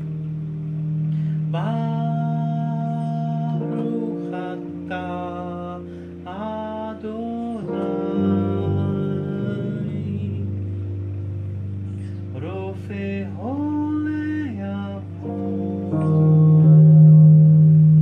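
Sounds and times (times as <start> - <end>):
electric keyboard low chords: 0.0 - 18.0.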